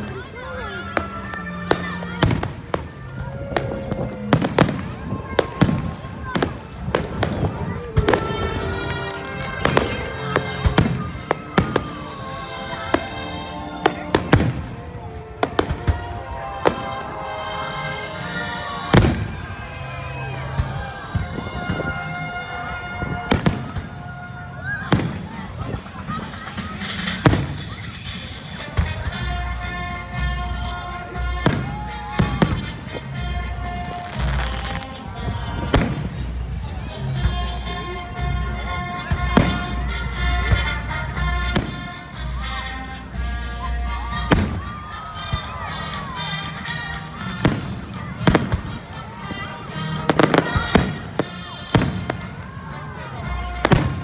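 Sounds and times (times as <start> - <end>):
music playing: 0.0 - 54.0
fireworks bursting with bangs: 0.9 - 17.2, 18.9 - 19.6, 23.0 - 24.0, 24.8 - 36.6, 38.5 - 42.9, 44.1 - 52.6, 53.2 - 54.0.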